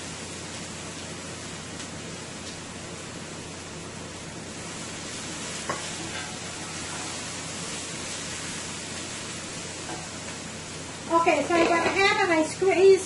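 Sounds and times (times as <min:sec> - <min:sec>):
seasoning sizzling in hot oil: 0:00.0 - 0:13.0.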